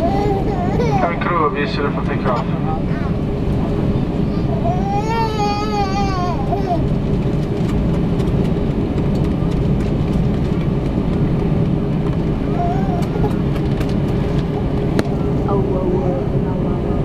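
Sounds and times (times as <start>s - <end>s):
jet engine noise in cabin: 0.0s - 17.0s.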